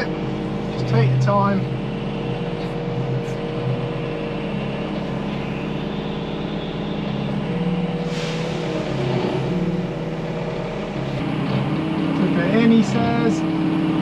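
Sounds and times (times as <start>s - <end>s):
loader engine running under load: 0.0s - 14.0s.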